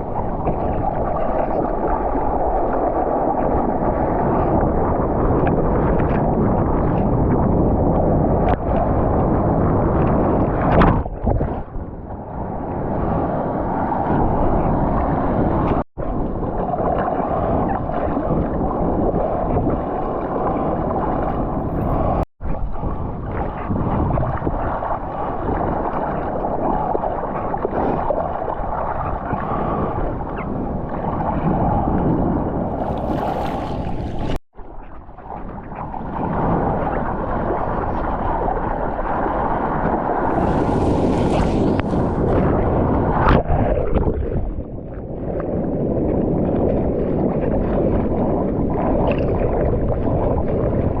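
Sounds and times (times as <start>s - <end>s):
surf and rushing water: 0.0s - 51.0s
wind buffeting microphone: 0.0s - 51.0s.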